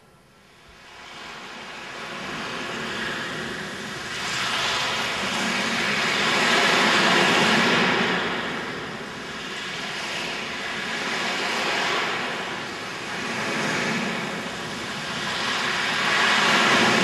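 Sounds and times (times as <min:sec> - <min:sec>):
rushing jet-like noise: 0:00.5 - 0:17.0.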